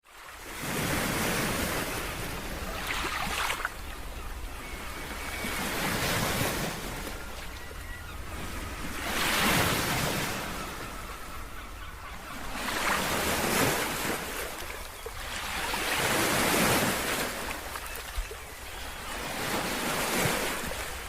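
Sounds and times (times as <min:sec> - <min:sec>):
ocean waves breaking on beach: 0:00.0 - 0:11.5, 0:12.1 - 0:21.0.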